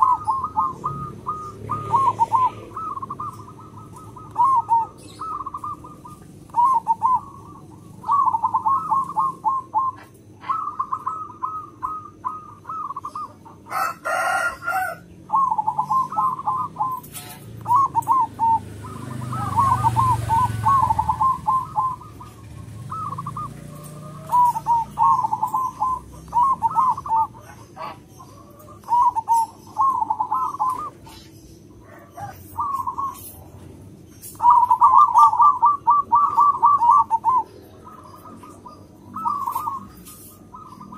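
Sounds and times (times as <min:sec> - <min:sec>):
harsh bird call: 0:00.0 - 0:33.5, 0:34.1 - 0:40.9
dove cooing in trills: 0:00.0 - 0:40.9.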